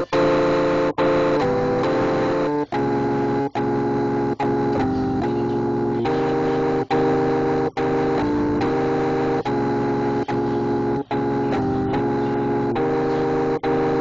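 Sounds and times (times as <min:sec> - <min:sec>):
organ-like keyboard chords: 0:00.0 - 0:14.0.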